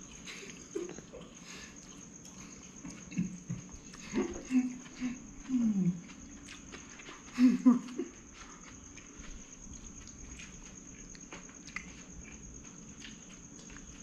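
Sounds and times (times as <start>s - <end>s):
steady low hum: 0.0s - 14.0s
toddler chewing crunchy lettuce: 0.0s - 14.0s.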